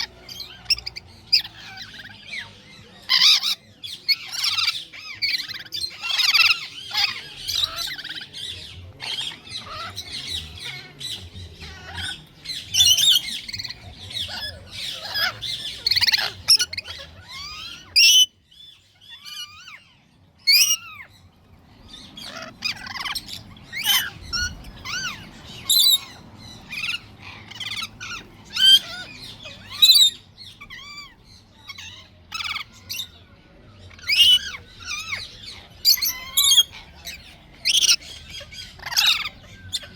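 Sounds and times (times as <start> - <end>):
parrots screeching and chattering: 0.0 - 39.9.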